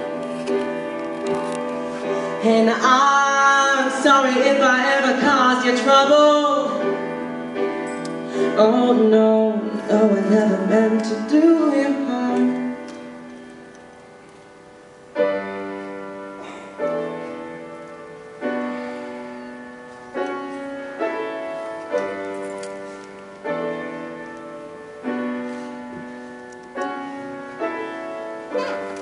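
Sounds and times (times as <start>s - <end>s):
grand piano chords: 0.0s - 29.0s.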